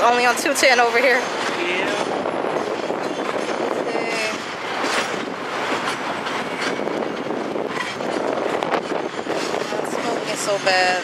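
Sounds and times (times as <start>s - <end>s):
train wheels clicking over rail joints: 0.0s - 11.0s.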